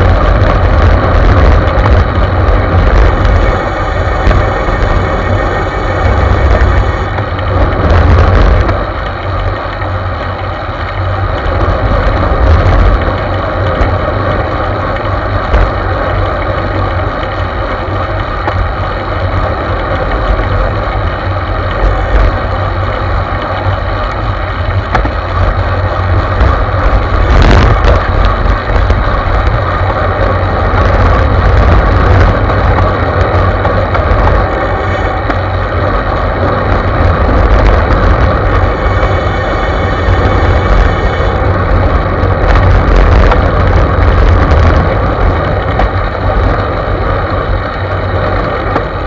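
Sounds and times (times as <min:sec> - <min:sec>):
bicycle tyre road noise: 0:00.0 - 0:49.0
wind buffeting microphone: 0:00.0 - 0:49.0.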